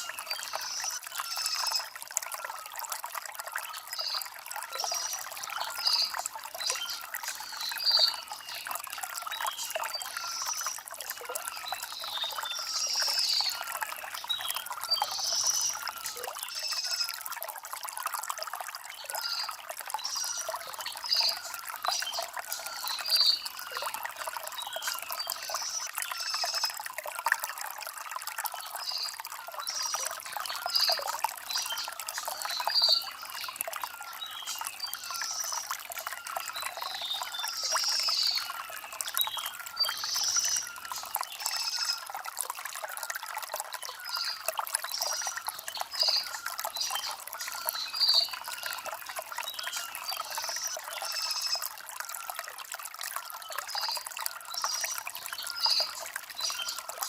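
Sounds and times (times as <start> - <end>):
stream trickling over stones: 0.0 - 57.0.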